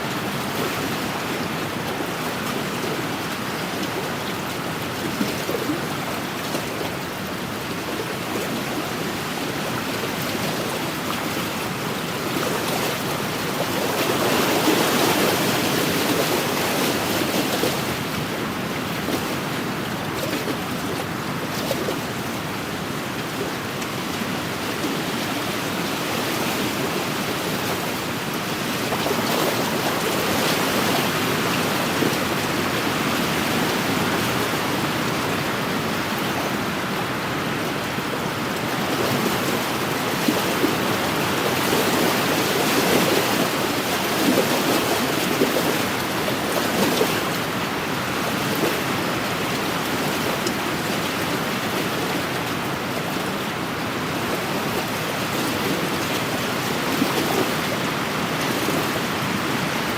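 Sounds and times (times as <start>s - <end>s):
small waves washing against shore: 0.0s - 59.9s.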